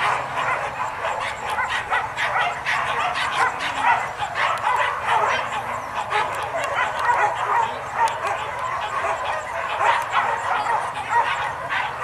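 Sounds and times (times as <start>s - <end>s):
dogs barking and yelping: 0.0s - 12.0s.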